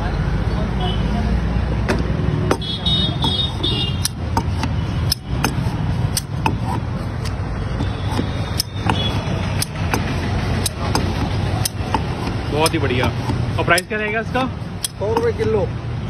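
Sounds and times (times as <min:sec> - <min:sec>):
sugarcane cutter clacking: 0:01.9 - 0:15.6.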